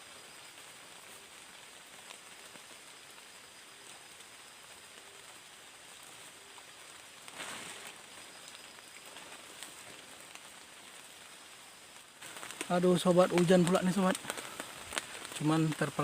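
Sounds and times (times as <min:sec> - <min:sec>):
rain falling: 0:00.0 - 0:16.0
raindrops ticking: 0:00.0 - 0:16.0.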